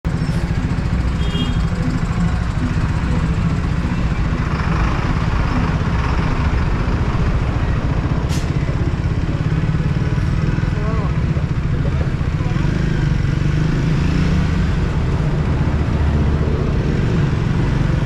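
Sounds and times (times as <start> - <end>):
motorcycle engine low rumble: 0.0 - 18.0.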